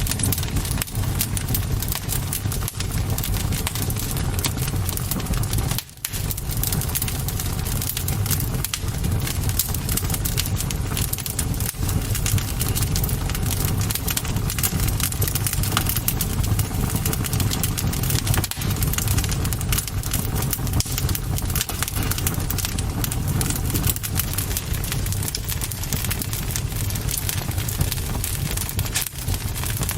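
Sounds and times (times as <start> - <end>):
bonfire crackling and popping: 0.0 - 29.9
low fire rumble: 0.0 - 29.9.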